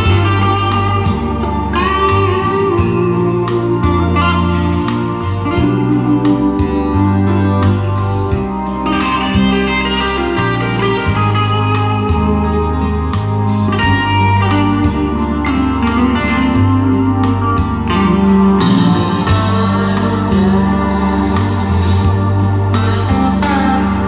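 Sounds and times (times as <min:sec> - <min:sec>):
plucked string music: 0:00.0 - 0:24.0
steady bass line: 0:00.0 - 0:24.0.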